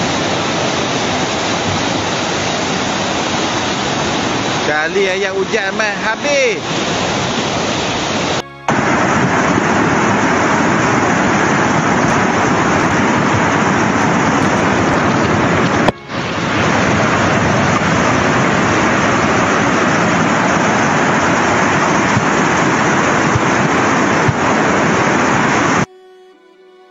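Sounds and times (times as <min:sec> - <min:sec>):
flood torrent rushing: 0:00.0 - 0:25.9.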